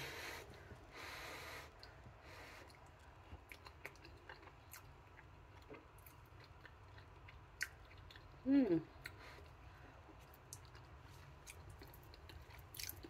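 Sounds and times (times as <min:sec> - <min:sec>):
quiet chewing with mouth clicks: 0:01.7 - 0:13.0.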